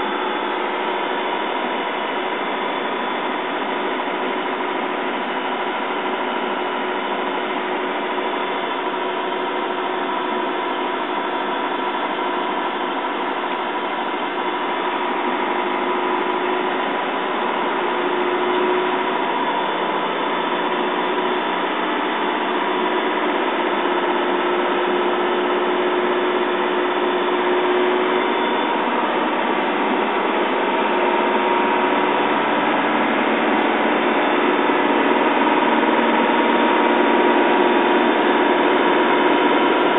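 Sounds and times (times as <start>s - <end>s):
steady hum: 0.0s - 39.9s
truck diesel engine running: 0.0s - 39.9s.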